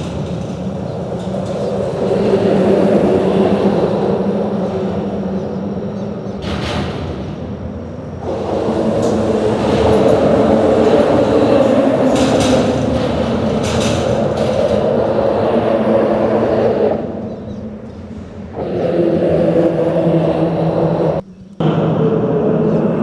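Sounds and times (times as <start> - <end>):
humming tones: 0.0 - 23.0
traffic rumbling over bridge: 0.0 - 23.0.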